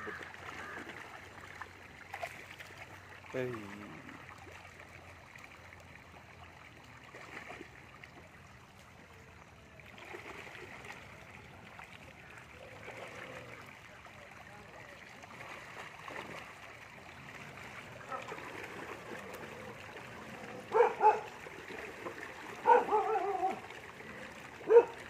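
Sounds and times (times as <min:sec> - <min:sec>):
fish thrashing in shallow water: 0:00.0 - 0:08.8, 0:09.8 - 0:25.0.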